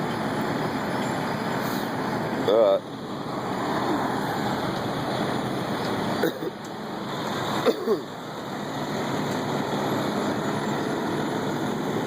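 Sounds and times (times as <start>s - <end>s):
road-milling machine grinding asphalt: 0.0s - 12.0s.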